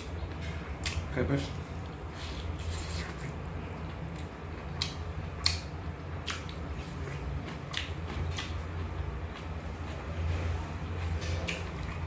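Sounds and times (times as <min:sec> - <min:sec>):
chewing and lip smacks: 0:00.0 - 0:01.1, 0:01.8 - 0:10.0, 0:11.0 - 0:12.0.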